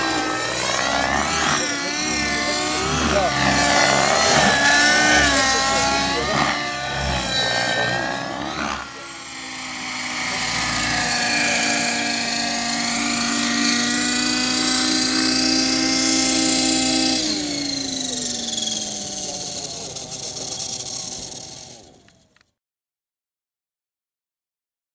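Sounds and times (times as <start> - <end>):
model helicopter rotor whine: 0.0 - 22.5.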